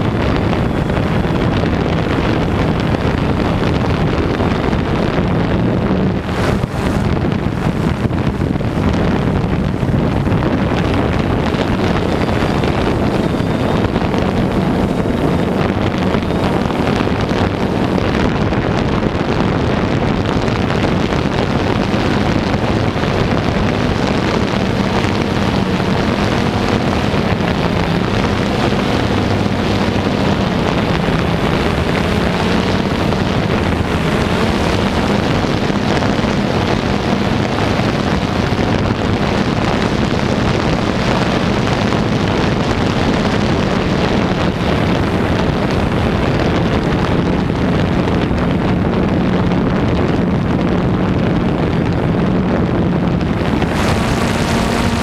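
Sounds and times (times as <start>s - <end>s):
drone propellers humming: 0.0s - 55.0s
wind buffeting microphone: 0.0s - 55.0s.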